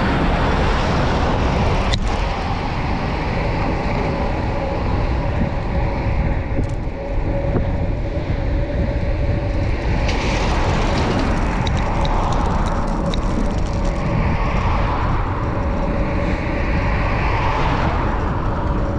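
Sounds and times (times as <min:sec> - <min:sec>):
rushing wind noise: 0:00.0 - 0:18.9.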